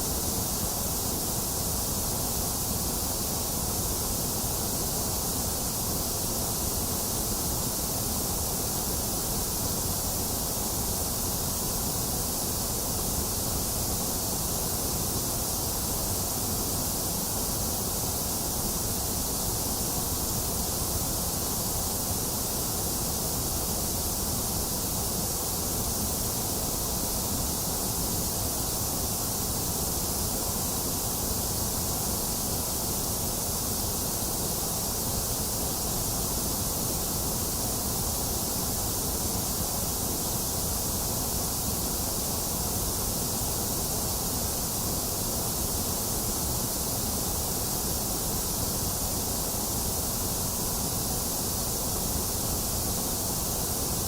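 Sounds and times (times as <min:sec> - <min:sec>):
synthetic white noise: 0:00.0 - 0:54.0.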